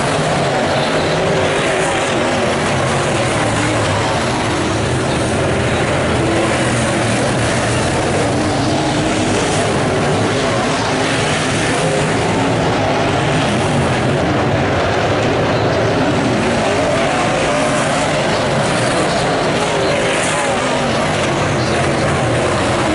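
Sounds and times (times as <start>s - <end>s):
race car engines roaring: 0.0s - 22.9s.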